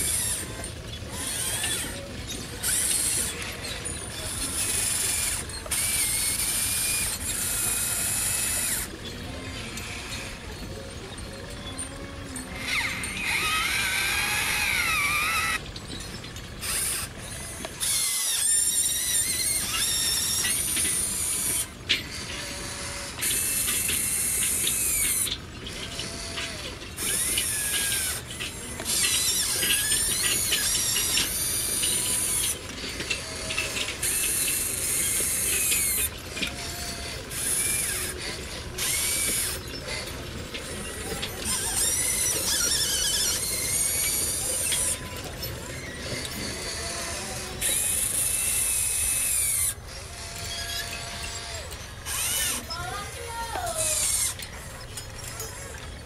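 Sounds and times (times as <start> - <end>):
model excavator motors whining: 0.0 - 56.0.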